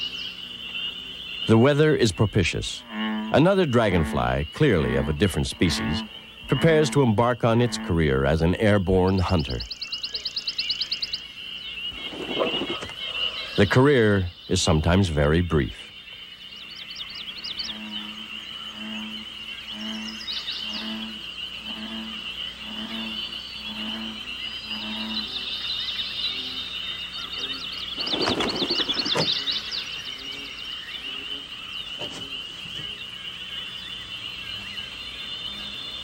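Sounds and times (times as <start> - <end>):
birds chirping: 0.0 - 36.0
frog croaking: 0.0 - 36.0
high insect drone: 0.0 - 36.0.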